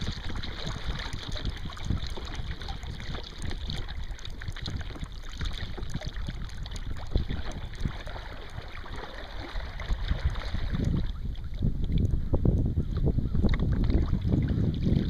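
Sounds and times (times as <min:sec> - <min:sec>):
paddle dipping into water: 0:00.0 - 0:12.2, 0:12.9 - 0:15.0
low wind rumble: 0:00.0 - 0:15.0
water splashing along a hull: 0:00.0 - 0:15.0.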